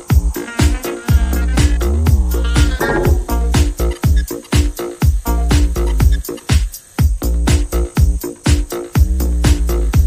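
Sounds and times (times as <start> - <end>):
upbeat music with steady beat: 0.0 - 10.0.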